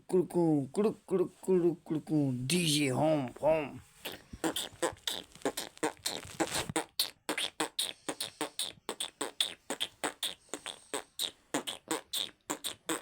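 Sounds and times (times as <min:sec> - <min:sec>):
boy beatboxing: 0:00.0 - 0:13.0.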